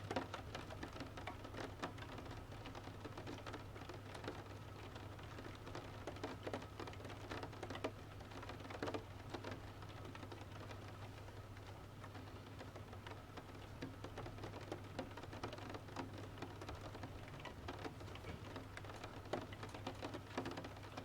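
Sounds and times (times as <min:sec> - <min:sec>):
rain pattering on window: 0:00.0 - 0:21.0.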